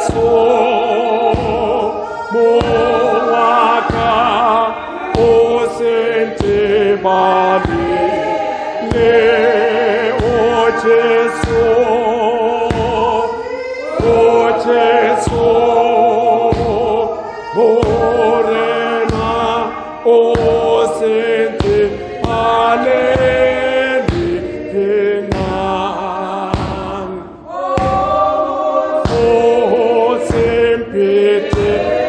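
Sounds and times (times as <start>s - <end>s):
congregation singing a hymn: 0.0s - 32.0s.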